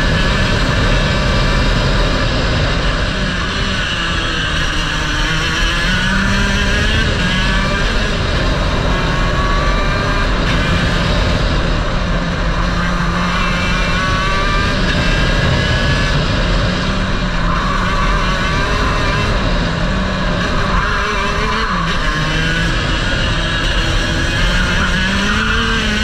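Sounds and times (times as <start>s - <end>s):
kart engine revving: 0.0s - 26.0s
wind and road noise: 0.0s - 26.0s.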